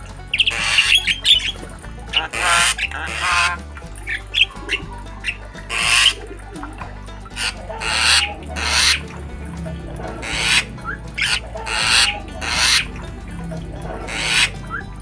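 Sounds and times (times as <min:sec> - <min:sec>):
bird harsh raspy squawks: 0:00.3 - 0:14.9.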